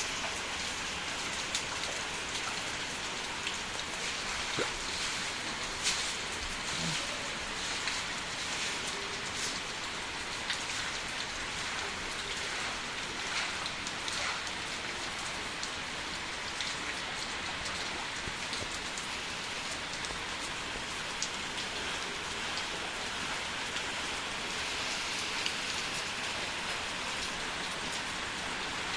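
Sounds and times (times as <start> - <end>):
heavy rain pattering: 0.0 - 28.9.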